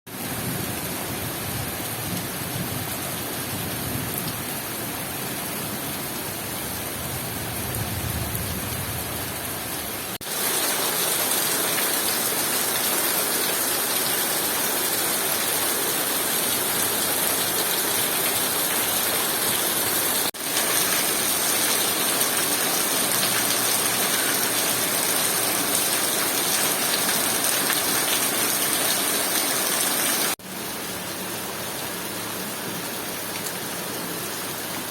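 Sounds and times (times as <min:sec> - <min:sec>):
heavy rain hissing: 0:04.5 - 0:34.9.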